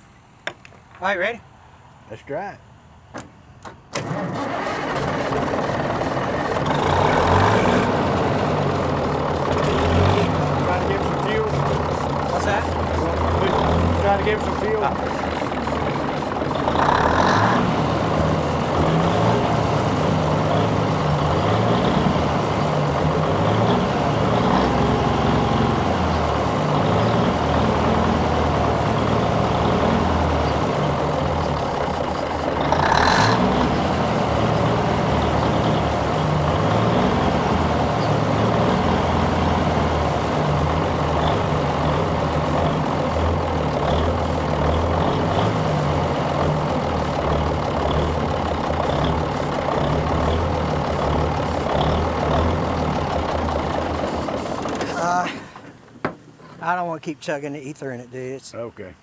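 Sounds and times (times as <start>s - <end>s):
diesel engine running unevenly: 4.0s - 56.0s.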